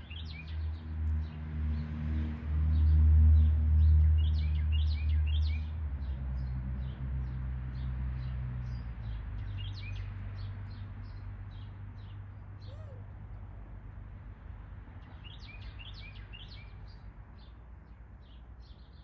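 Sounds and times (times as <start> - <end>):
songbirds chirping: 0.0 - 1.9, 2.7 - 19.0.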